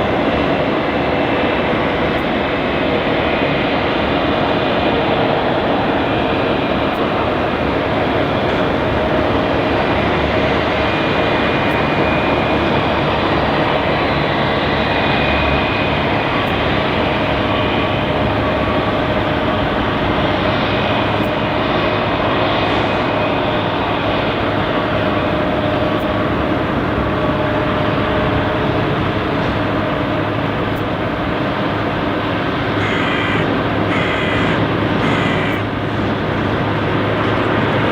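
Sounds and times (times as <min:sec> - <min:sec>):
jet engines running: 0:00.0 - 0:37.9.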